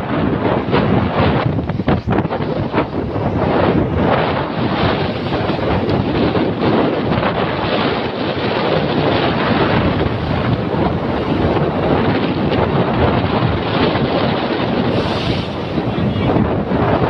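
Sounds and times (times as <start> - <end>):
wind buffeting microphone: 0.0 - 17.0
waves washing: 0.1 - 17.0.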